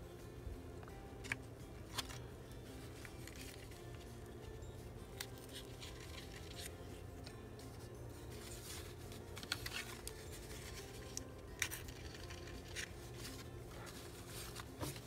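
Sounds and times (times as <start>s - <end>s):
paper rustling: 1.2s - 4.2s, 5.2s - 15.0s.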